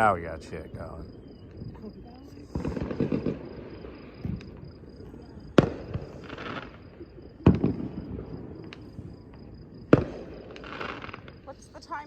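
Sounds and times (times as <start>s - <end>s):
fireworks banging: 0.0s - 12.0s
fireworks crackling hiss: 2.3s - 12.0s.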